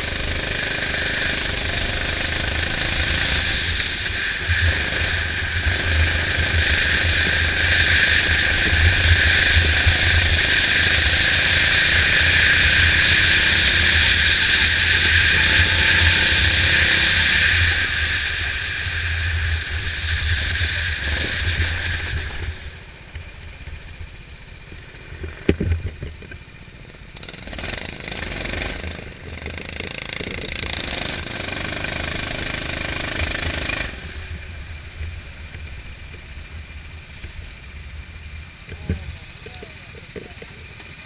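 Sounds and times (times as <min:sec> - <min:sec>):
go-kart engine: 0:00.0 - 0:41.0.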